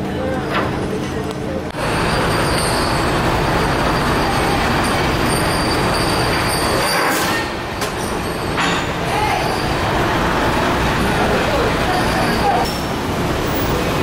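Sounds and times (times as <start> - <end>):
ferry engines rumbling: 0.0 - 14.0.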